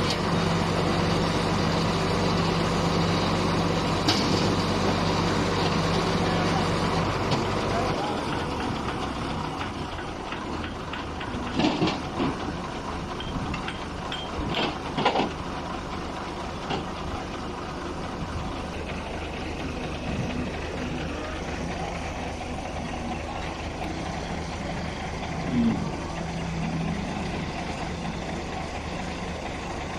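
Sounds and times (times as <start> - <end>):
engine idling: 0.0 - 29.9.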